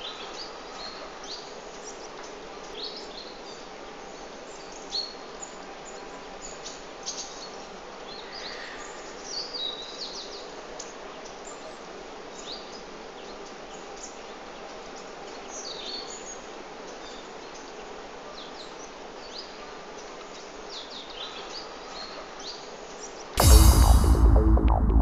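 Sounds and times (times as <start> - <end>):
outdoor background hiss: 0.0 - 23.4.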